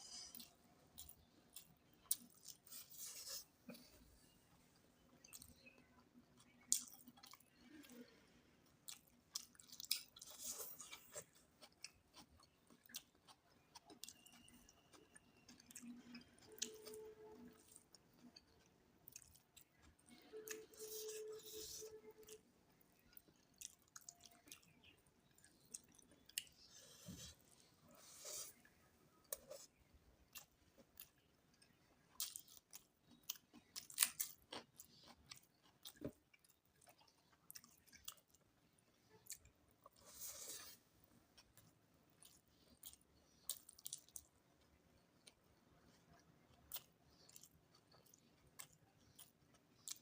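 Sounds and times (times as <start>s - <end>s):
person chewing: 0.0s - 4.0s, 5.2s - 50.0s.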